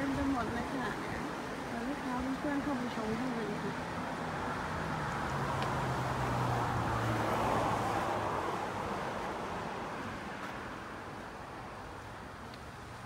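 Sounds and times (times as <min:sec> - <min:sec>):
vehicle passing: 0:00.0 - 0:11.6.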